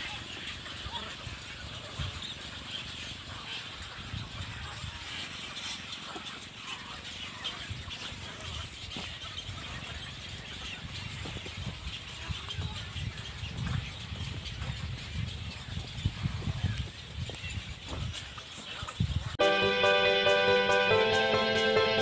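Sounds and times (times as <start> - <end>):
birds chattering: 0.0 - 20.0.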